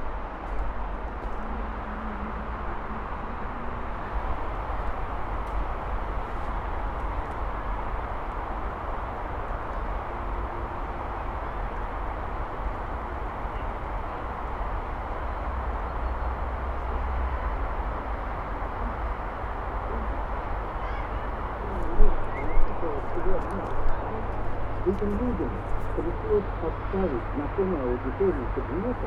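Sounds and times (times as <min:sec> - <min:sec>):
heavy traffic drone: 0:00.0 - 0:29.0.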